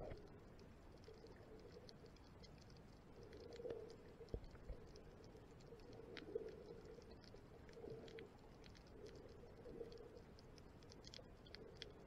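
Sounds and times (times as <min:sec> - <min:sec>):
small underwater clicks and crackles: 0:00.0 - 0:12.0.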